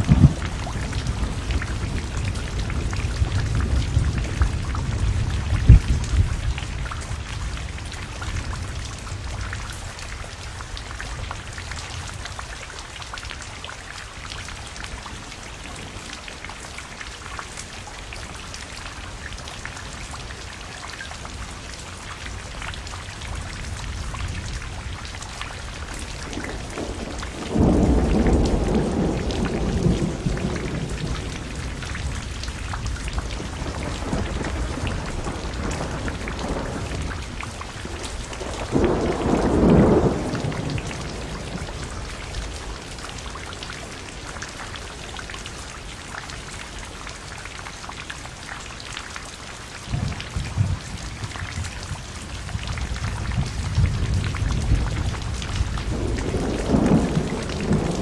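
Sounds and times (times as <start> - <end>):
rain falling on water: 0.0 - 58.0.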